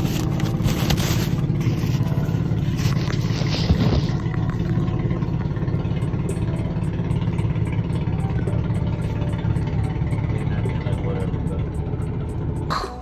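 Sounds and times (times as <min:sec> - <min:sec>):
engine idling rumble: 0:00.0 - 0:13.0.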